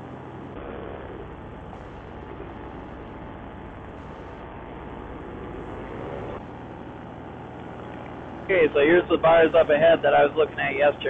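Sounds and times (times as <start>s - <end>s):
paramotor engine and propeller: 0.0s - 11.0s.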